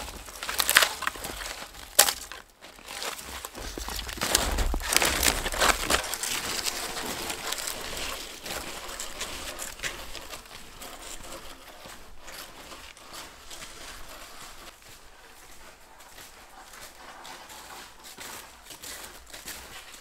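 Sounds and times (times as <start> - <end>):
footsteps crunching through snow: 0.0 - 20.0.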